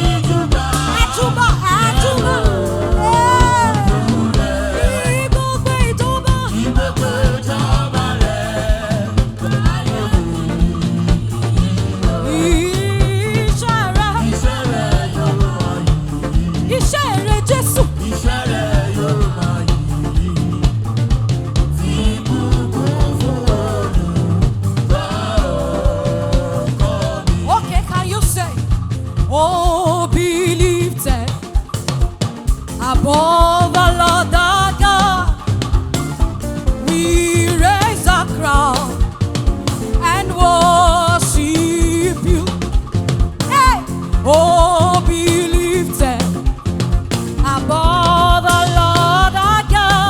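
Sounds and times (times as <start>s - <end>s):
band playing worship music: 0.0s - 50.0s
drum kit beat: 0.0s - 50.0s
voices singing: 0.0s - 50.0s.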